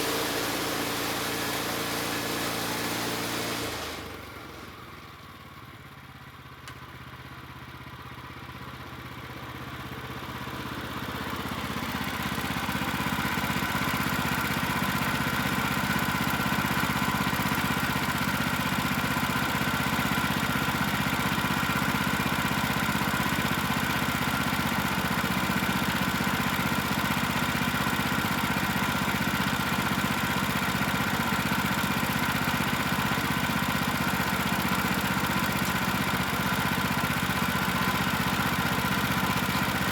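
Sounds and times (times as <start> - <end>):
sawmill gas engine running: 0.0 - 39.9.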